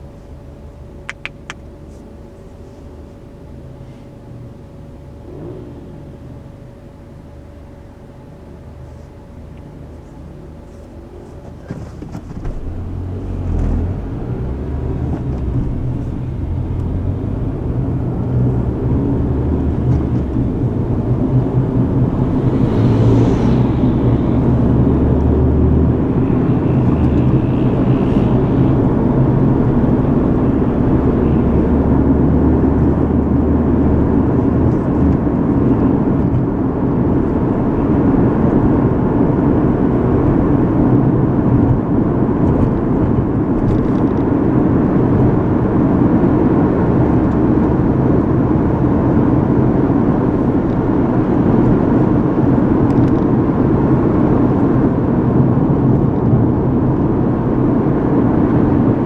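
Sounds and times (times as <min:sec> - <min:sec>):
car engine and tyre noise: 0:00.0 - 0:06.2, 0:08.5 - 0:59.0
road rumble: 0:00.0 - 0:59.0.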